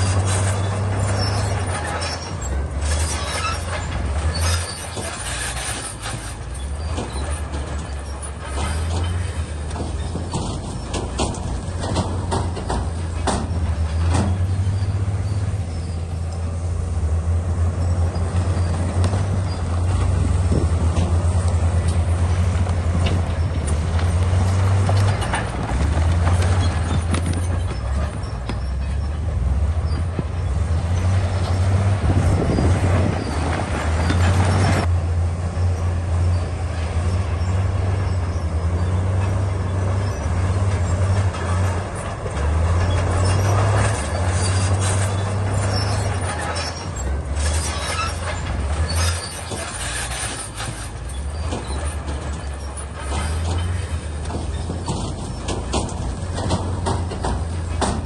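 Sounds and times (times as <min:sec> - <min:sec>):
bulldozer diesel engine humming: 0:00.0 - 0:58.0.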